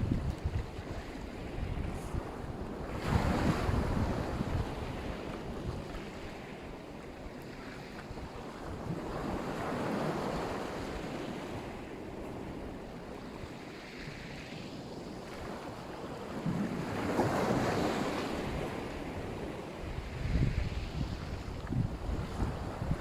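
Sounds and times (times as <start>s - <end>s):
waves breaking on shore: 0.0s - 23.0s
wind on microphone: 0.0s - 23.0s.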